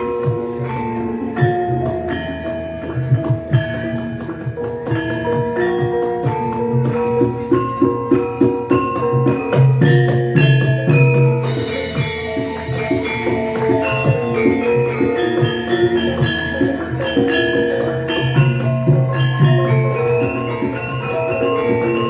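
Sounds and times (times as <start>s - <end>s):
bronze metallophones ringing: 0.0s - 22.0s.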